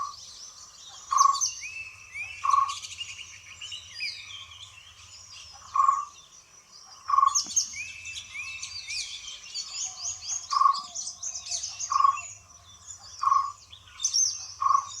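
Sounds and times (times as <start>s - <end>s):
birds chirping and warbling: 0.0s - 15.0s.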